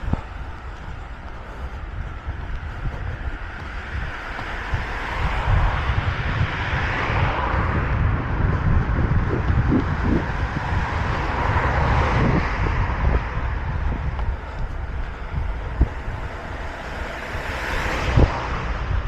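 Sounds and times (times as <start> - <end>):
road traffic hiss: 0.0 - 19.0
wind buffeting microphone: 0.0 - 19.0.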